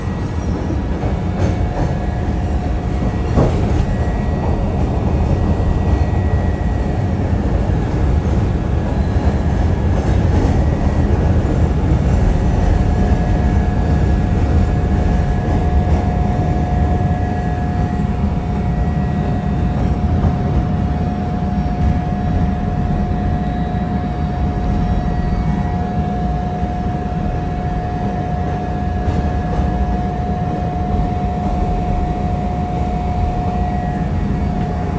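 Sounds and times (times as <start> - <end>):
thin steady whine: 0.0 - 34.9
train wheels rumbling: 0.0 - 34.9.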